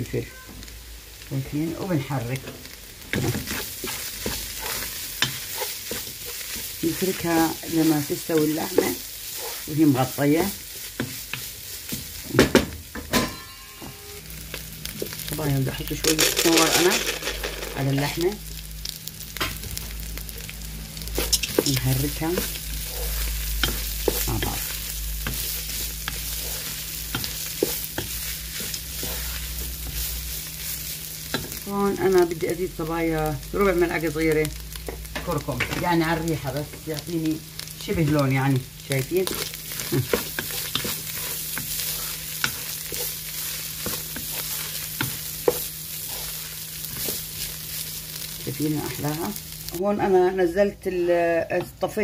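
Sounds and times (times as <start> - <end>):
meat sizzling in a pot: 0.0 - 52.0.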